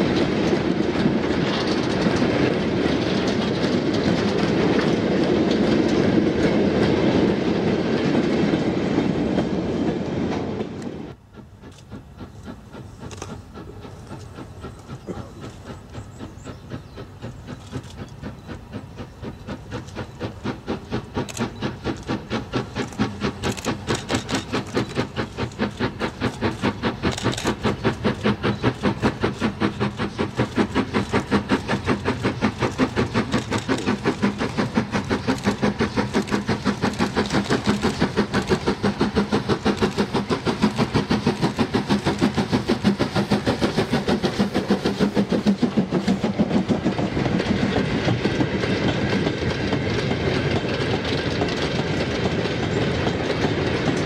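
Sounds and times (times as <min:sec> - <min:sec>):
steam locomotive exhaust beating: 0:00.0 - 0:54.0.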